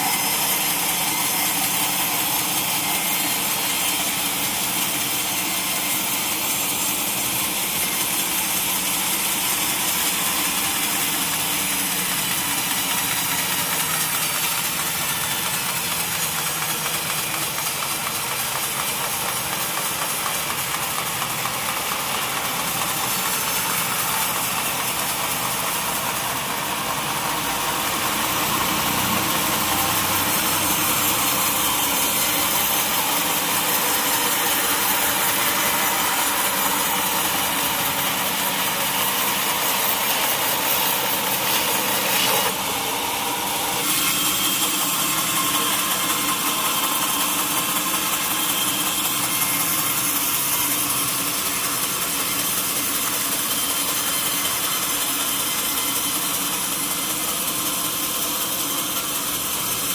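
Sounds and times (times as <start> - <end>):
hiss: 0.0 - 59.9
sawmill machinery hum: 0.0 - 59.9.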